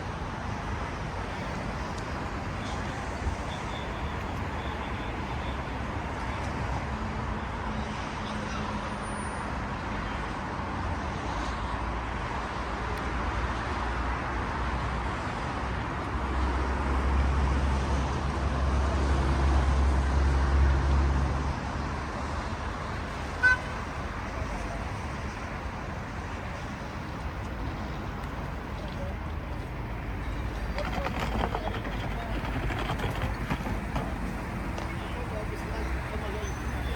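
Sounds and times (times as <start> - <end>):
city street traffic: 0.0 - 36.9.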